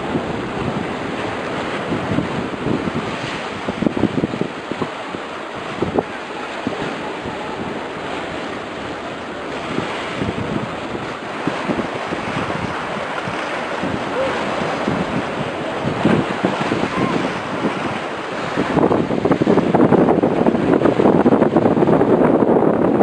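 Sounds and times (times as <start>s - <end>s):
sea waves: 0.0s - 23.0s
wind buffeting microphone: 0.0s - 23.0s.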